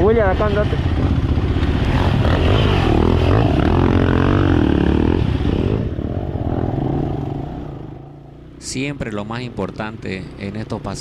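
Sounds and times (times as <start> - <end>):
motorcycle engine revving: 0.0 - 8.9.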